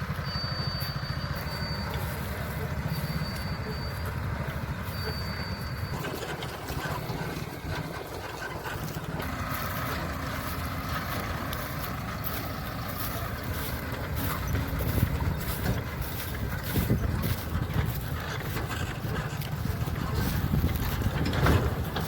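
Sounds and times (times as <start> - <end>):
harvester engine running: 0.0 - 22.0.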